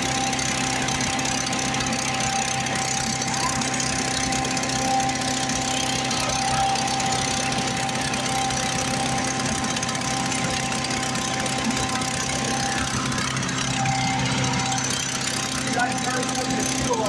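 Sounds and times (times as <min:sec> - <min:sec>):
small gas engine running: 0:00.0 - 0:17.0.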